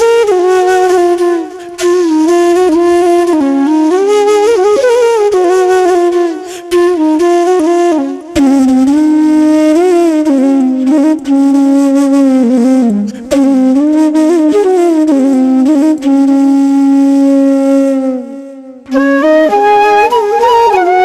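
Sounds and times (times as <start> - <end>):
solo flute melody: 0.0 - 21.0.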